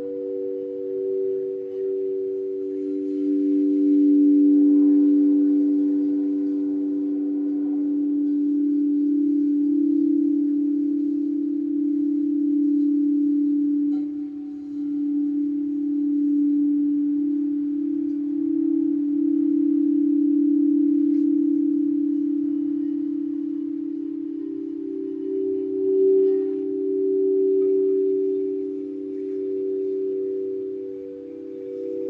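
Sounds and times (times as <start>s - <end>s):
light chime notes: 0.0s - 32.0s
singing bowl humming: 0.0s - 32.0s.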